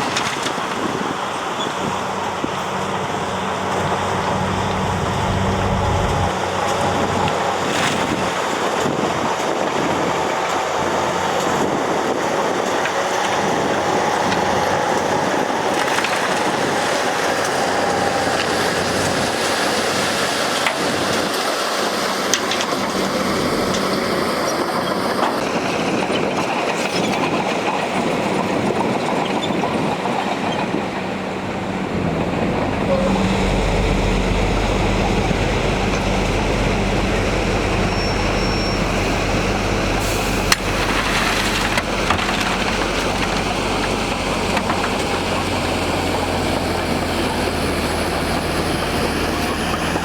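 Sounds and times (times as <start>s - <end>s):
heavy machinery clattering: 0.0s - 50.0s.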